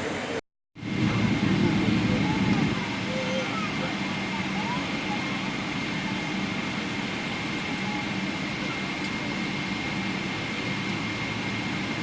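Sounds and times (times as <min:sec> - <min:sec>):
aircraft cabin engine and airflow noise: 0:00.0 - 0:12.0.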